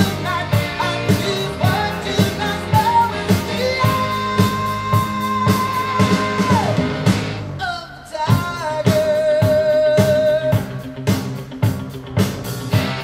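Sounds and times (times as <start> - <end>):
singer holding long notes: 0.0 - 10.6
rock song through speakers: 0.0 - 13.0.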